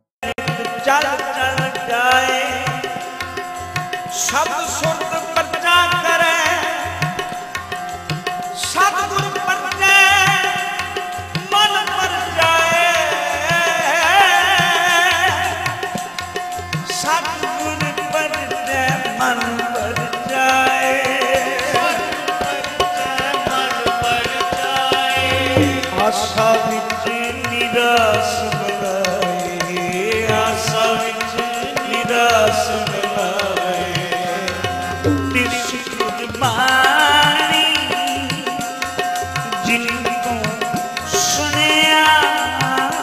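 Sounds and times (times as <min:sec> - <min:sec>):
harmonium melody: 0:00.0 - 0:43.0
tabla playing a rhythm: 0:00.2 - 0:43.0.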